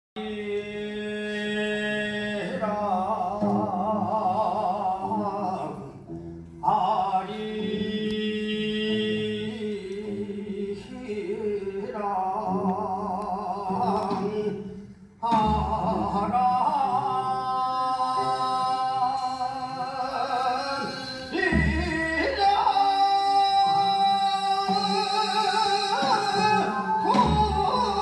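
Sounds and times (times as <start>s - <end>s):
person singing folk song with vibrato: 0.2s - 28.0s.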